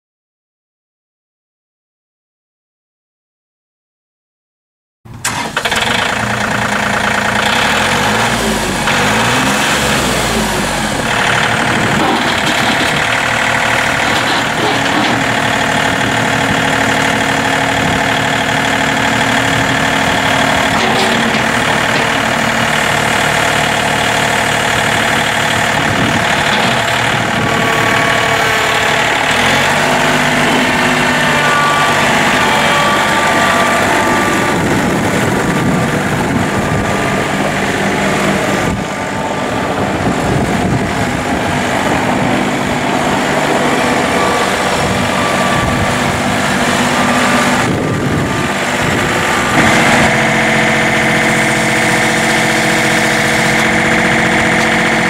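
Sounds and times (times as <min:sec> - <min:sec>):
tractor diesel engine running: 0:05.1 - 0:55.0.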